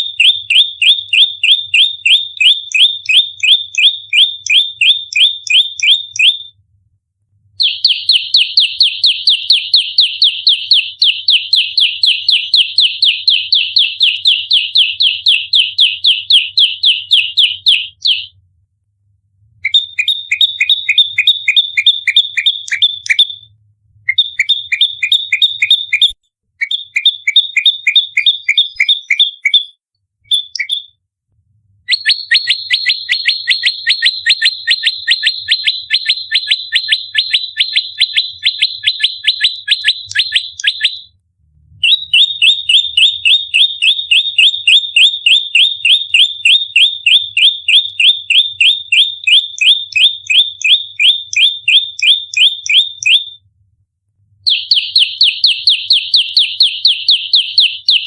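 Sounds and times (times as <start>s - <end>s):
bird rapidly chirping: 0.0s - 6.4s, 7.6s - 18.3s, 19.6s - 23.5s, 24.1s - 31.0s, 31.9s - 41.1s, 41.8s - 53.4s, 54.5s - 58.0s.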